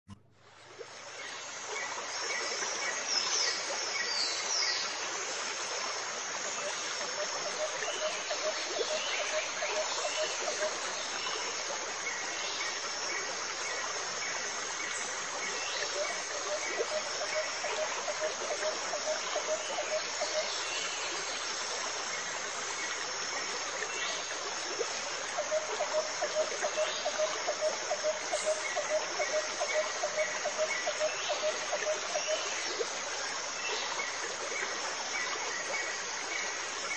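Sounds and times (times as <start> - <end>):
running water: 0.1 - 36.9.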